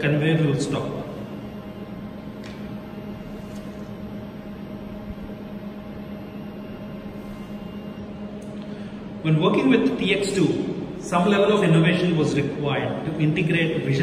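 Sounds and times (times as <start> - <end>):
conveyor belt motor hum: 0.0 - 14.0.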